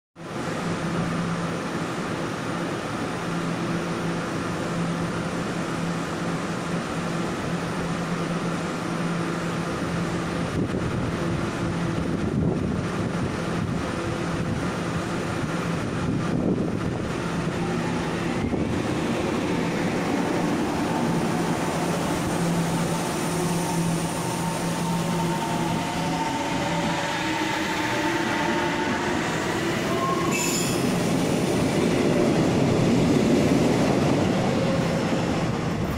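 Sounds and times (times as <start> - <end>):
train equipment humming: 0.3 - 35.9.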